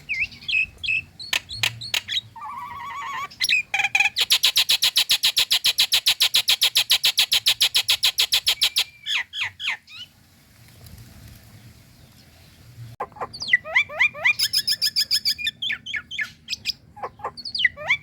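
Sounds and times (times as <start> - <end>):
myna calling: 0.0 - 9.8, 13.0 - 18.0.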